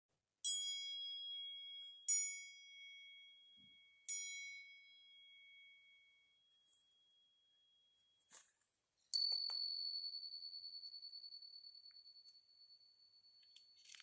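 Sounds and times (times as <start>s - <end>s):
small hanging bell ringing: 0.4s - 8.5s, 9.1s - 14.0s.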